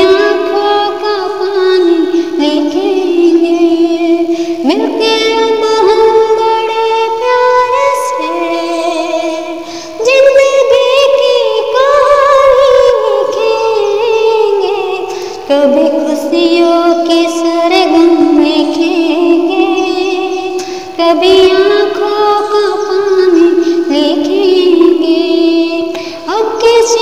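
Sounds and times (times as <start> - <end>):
woman singing with vibrato: 0.0 - 27.0.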